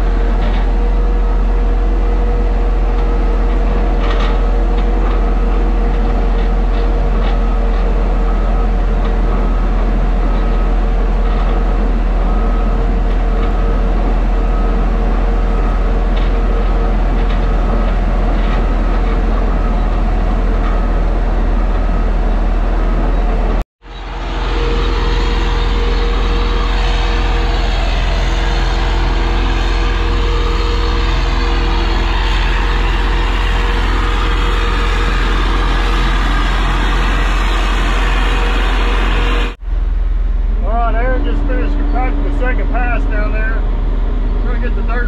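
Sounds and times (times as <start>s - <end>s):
roller diesel engine rumbling: 0.0s - 45.0s.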